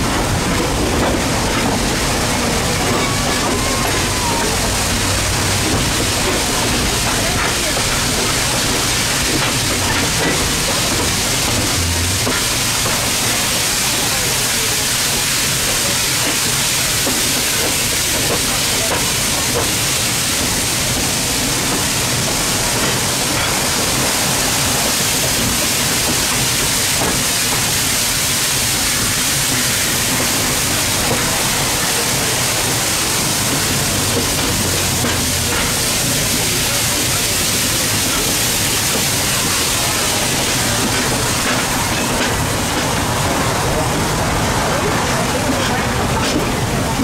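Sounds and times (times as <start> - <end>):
train rushing noise: 0.0 - 47.0.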